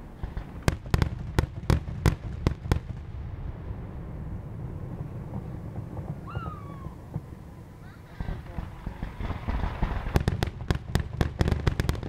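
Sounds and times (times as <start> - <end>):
fireworks bangs: 0.0 - 12.0
low steady rumble: 0.0 - 12.0.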